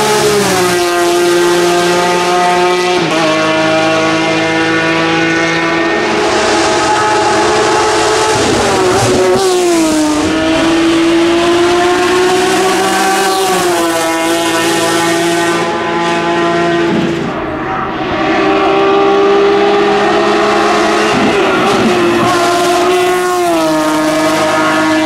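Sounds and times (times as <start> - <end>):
race car engine revving high: 0.0 - 25.0.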